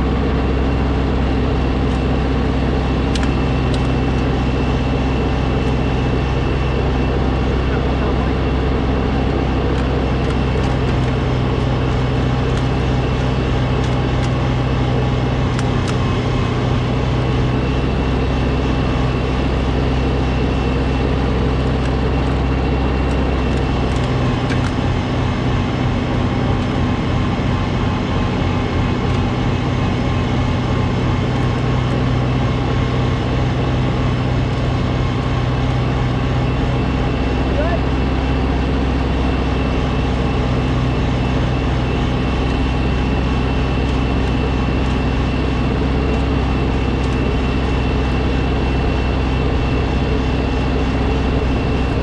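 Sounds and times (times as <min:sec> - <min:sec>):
snowblower engine running: 0:00.0 - 0:52.0.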